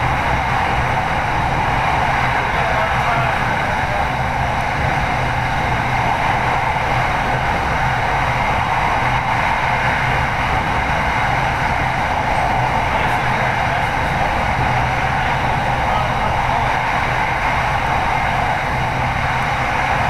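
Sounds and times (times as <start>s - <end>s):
low train hum: 0.0s - 20.0s
train wheels on rails: 0.0s - 20.0s.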